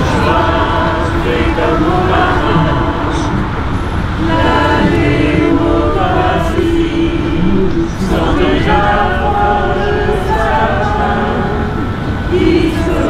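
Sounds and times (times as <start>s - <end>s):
group singing in unison: 0.0s - 13.0s.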